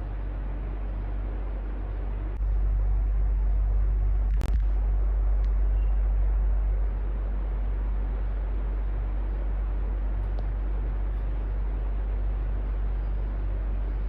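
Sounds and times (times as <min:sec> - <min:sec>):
electric fan whooshing: 0:00.0 - 0:14.0
low hum: 0:00.0 - 0:14.0.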